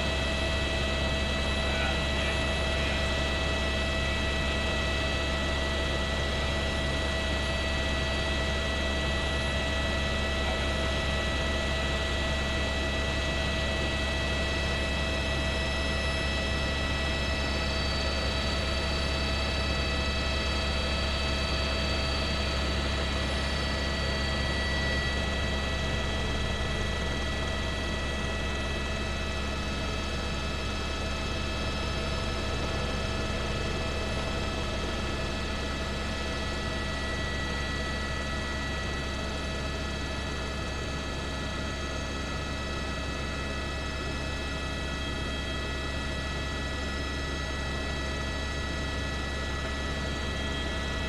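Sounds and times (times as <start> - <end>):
helicopter rotor drone: 0.0 - 51.0.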